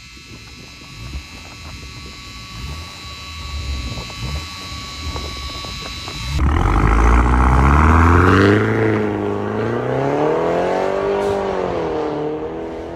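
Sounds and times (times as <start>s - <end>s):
car engine revving through exhaust: 0.5s - 12.9s.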